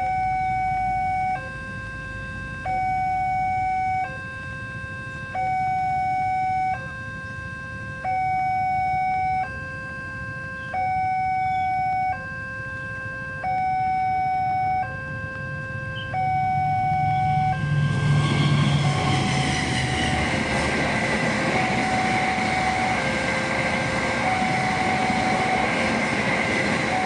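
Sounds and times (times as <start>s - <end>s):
level crossing two-tone alarm: 0.0s - 27.0s.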